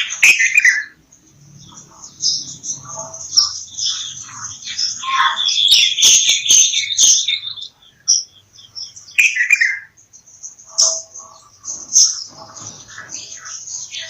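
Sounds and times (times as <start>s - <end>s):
bulbuls chirping: 0.0s - 14.0s.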